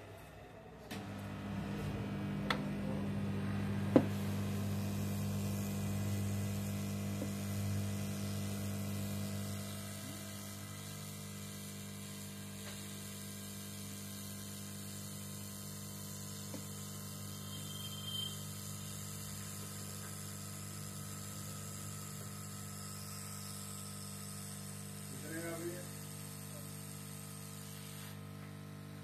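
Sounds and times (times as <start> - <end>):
low electrical hum: 0.0 - 26.7
hot-air station hissing: 1.0 - 29.0.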